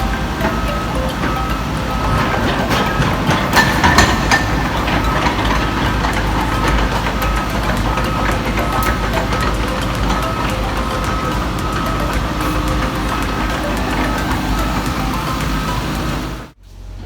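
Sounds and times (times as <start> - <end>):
metallic clanks: 0.0 - 16.6
diesel engine running: 0.0 - 17.0.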